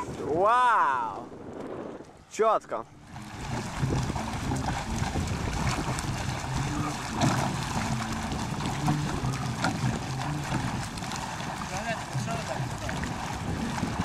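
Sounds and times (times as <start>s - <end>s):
swimmer climbing aboard: 0.0s - 14.0s
wind buffeting microphone: 0.0s - 14.0s
water splashing around metal boat: 1.8s - 14.0s.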